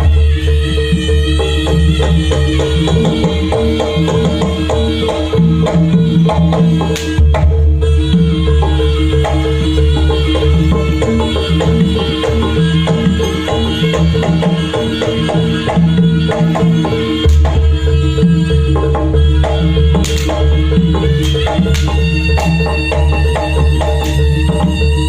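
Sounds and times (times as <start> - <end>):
hand drums beating fast rhythm: 0.0 - 25.0.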